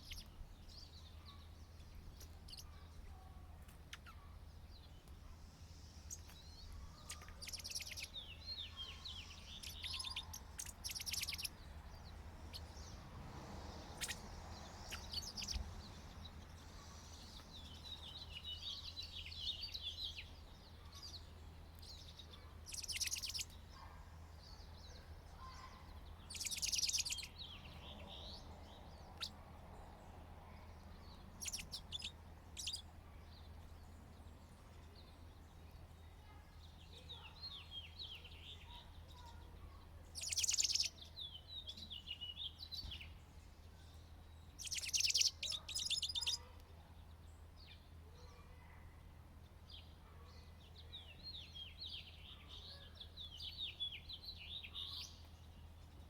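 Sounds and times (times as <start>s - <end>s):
small songbirds twittering: 0.0s - 56.0s.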